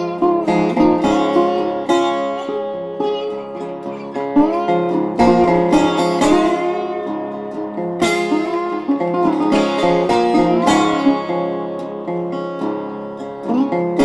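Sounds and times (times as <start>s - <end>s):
plucked string music: 0.0s - 14.0s.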